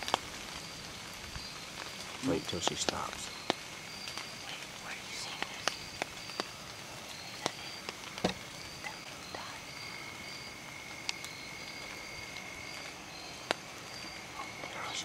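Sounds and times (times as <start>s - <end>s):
insects trilling: 0.0s - 15.0s
short insect chirps: 0.1s - 15.0s.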